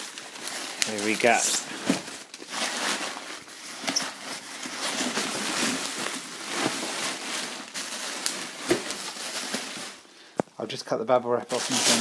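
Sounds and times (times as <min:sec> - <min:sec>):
paper and bubble wrap rustling: 0:00.0 - 0:10.3, 0:11.5 - 0:12.0.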